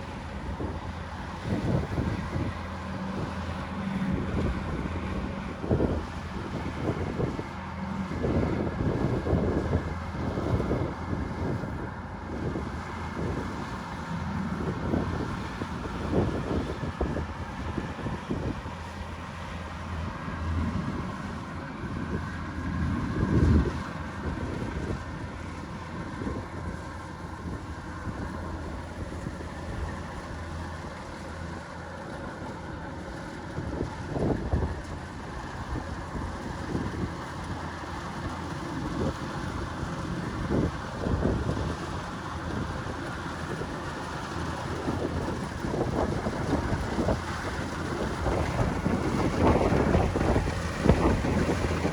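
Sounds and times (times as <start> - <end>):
wind buffeting microphone: 0.0 - 31.6, 32.5 - 51.9
combine harvester engine hum: 0.0 - 51.9.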